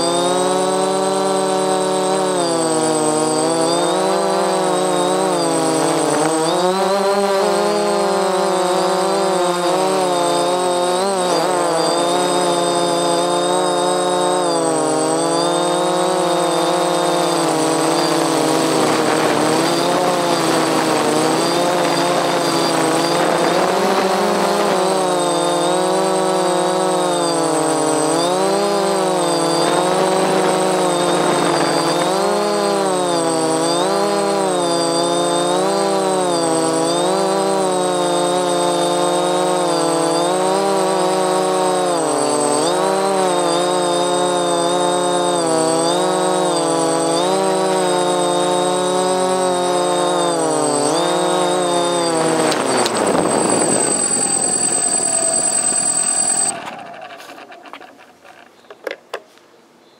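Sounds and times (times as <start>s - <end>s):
quadcopter motors buzzing: 0.0s - 59.0s.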